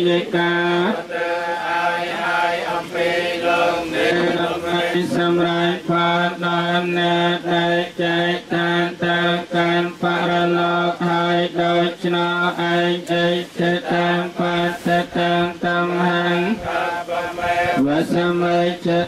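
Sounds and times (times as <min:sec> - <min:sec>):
monks chanting: 0:00.0 - 0:19.0.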